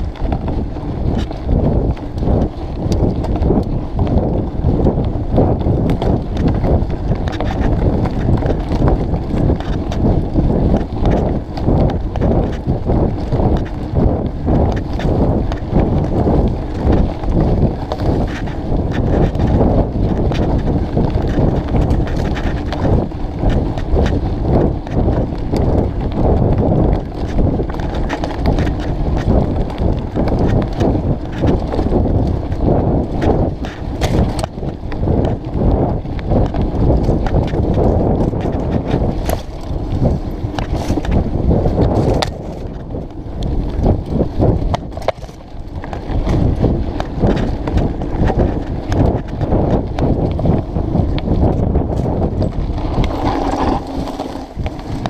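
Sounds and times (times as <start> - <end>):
mountain bike rattling over rough ground: 0.0 - 55.0.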